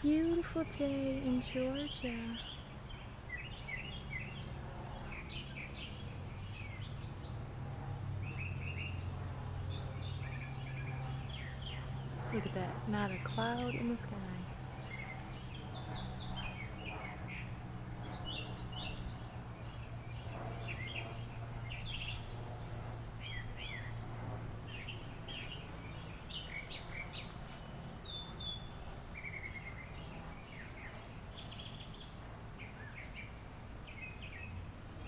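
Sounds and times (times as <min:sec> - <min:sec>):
small songbirds chirping: 0:00.0 - 0:35.0
steady low hum: 0:00.0 - 0:35.0.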